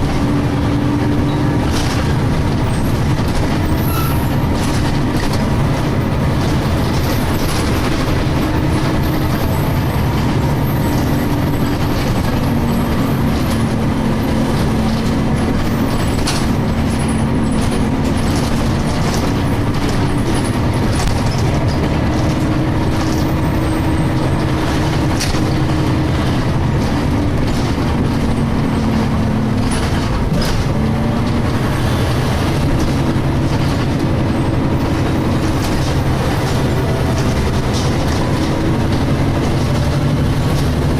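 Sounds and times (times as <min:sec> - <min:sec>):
bus body knocks and rattles: 0:00.0 - 0:40.9
bus engine droning: 0:00.0 - 0:40.9.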